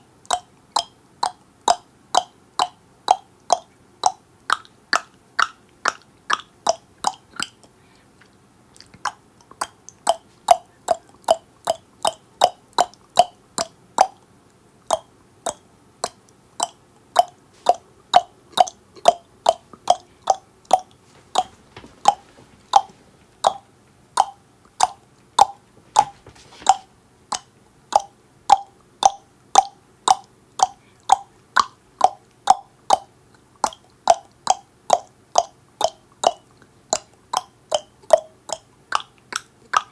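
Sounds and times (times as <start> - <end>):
tongue clicking: 0.2 - 25.6, 26.6 - 39.9.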